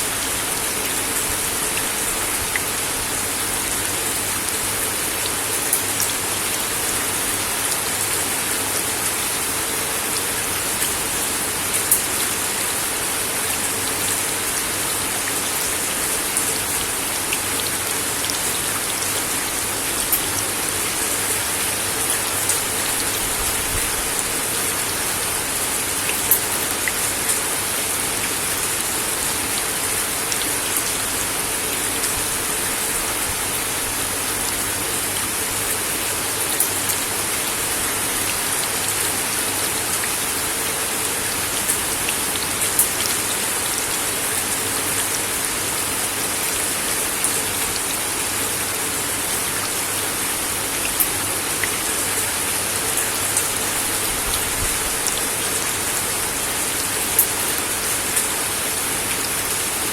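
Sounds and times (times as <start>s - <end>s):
rain on wooden deck: 0.0s - 59.9s.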